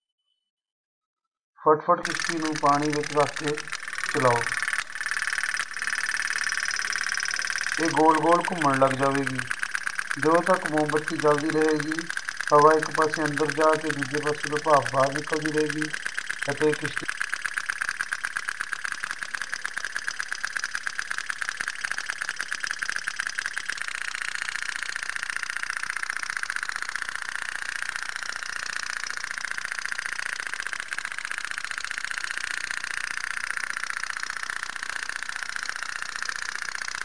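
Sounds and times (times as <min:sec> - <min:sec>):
toy steam boat putt-putt: 0:02.0 - 0:37.0.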